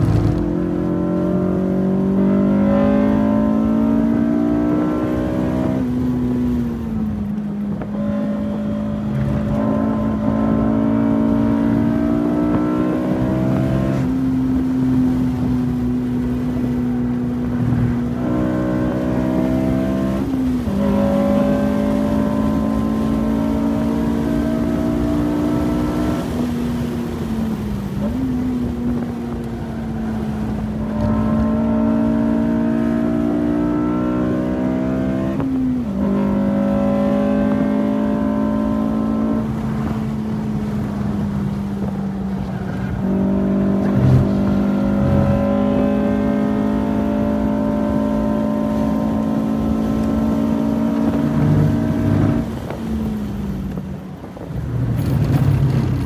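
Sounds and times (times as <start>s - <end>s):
car engine at high revs: 0.0s - 56.0s
road and wind noise: 0.0s - 56.0s.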